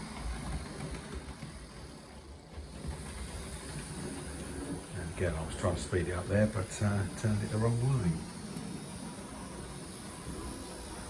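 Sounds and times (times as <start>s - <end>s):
model train motor and wheel rumble: 0.0s - 11.0s.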